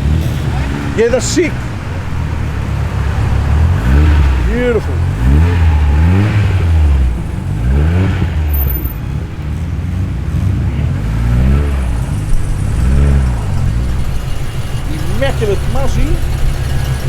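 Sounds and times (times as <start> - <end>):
car engine idling with rumble: 0.0 - 17.0
car engine revving: 0.0 - 17.0.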